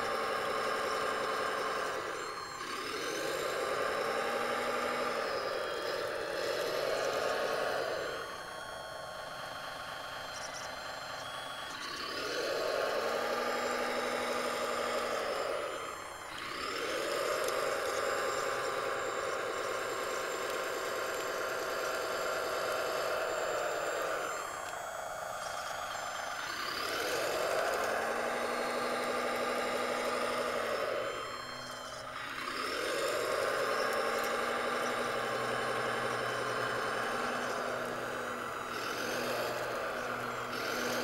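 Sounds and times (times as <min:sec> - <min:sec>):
model loader motors whining: 0:00.0 - 0:41.0.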